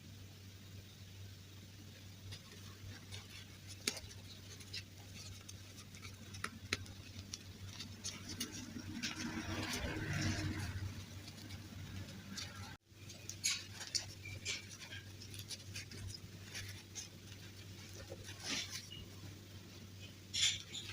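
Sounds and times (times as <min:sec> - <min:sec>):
rustling: 0:01.1 - 0:20.9.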